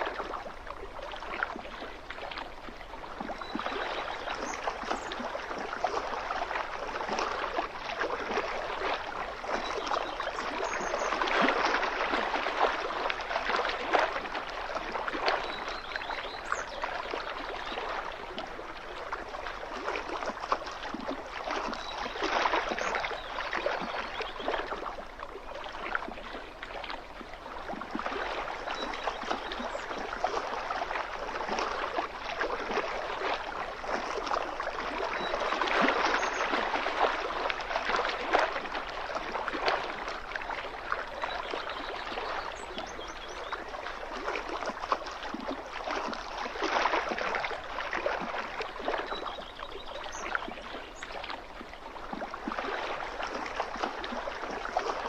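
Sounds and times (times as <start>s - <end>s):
small waves lapping against shore: 0.0s - 55.0s.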